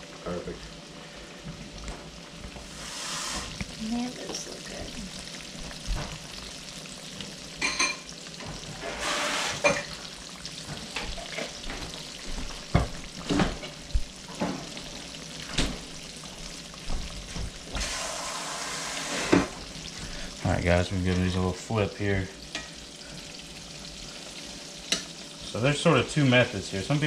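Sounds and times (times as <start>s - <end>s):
fish sizzling in hot oil: 0.0s - 27.0s
oil popping and crackling: 3.5s - 27.0s.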